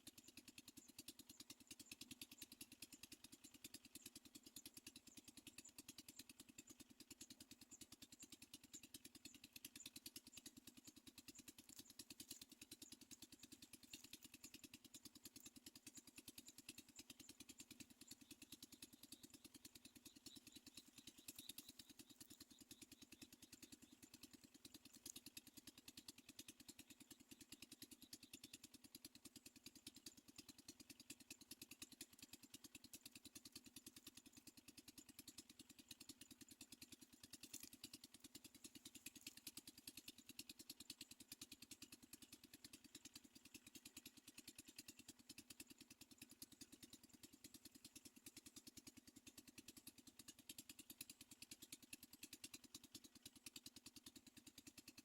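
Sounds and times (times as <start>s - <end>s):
faint rapidly pulsing hum: 0.2s - 48.4s.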